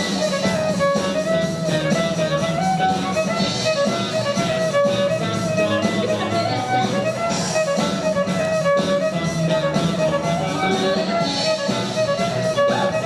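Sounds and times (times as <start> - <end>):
live band playing instrumental: 0.0 - 13.0.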